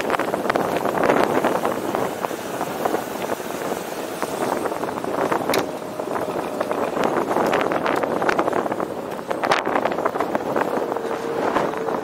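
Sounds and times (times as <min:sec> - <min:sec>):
vehicle ride rumble and hiss: 0:00.0 - 0:12.0.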